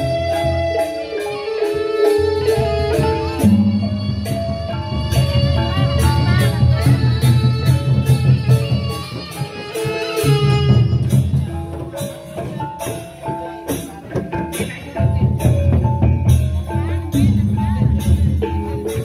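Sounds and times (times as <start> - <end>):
cymbals clashing: 0.0 - 19.0
barrel drums beating: 2.4 - 19.0.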